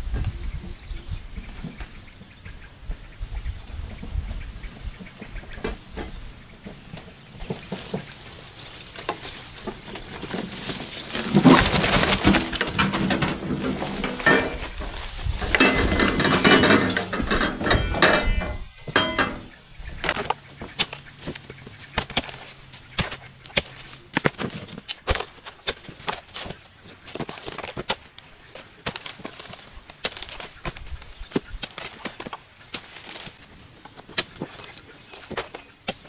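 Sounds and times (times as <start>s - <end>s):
wheelbarrow rattling over dirt: 5.2s - 36.0s.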